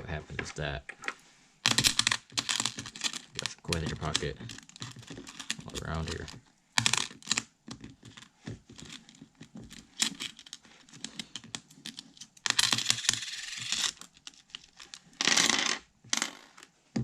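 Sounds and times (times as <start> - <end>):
coins scraping on a phone screen: 1.6 - 7.4, 8.0 - 16.7.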